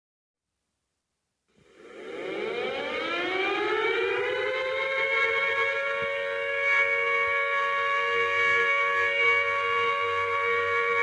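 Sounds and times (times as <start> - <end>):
warning siren winding up: 1.6 - 11.0.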